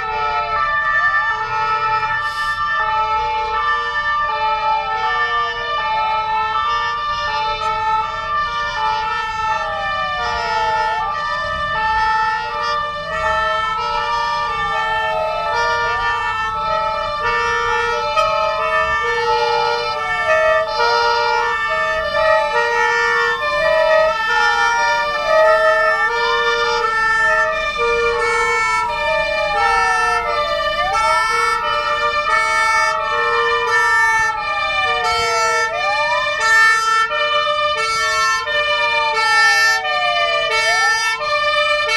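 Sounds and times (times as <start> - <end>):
fire engine sirens: 0.0 - 41.9.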